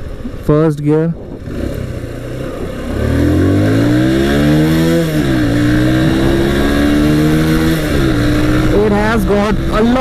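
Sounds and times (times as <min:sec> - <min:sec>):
motorcycle engine accelerating: 0:01.2 - 0:10.0.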